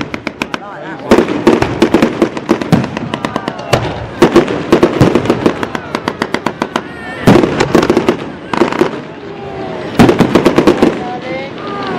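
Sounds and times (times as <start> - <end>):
fireworks banging and crackling: 0.0 - 11.9.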